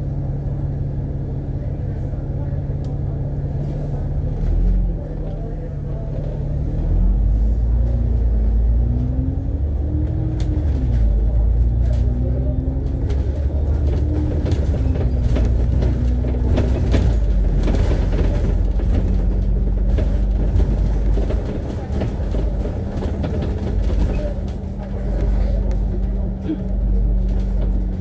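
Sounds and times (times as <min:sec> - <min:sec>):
bus diesel engine pulling away: 0:00.0 - 0:28.0.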